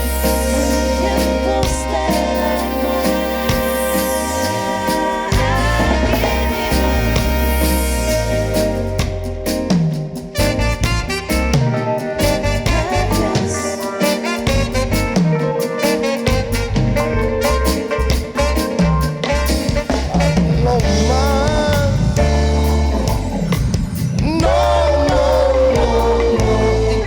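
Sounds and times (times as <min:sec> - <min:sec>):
drum kit beat: 0:00.0 - 0:27.0
reggae band playing: 0:00.0 - 0:27.0.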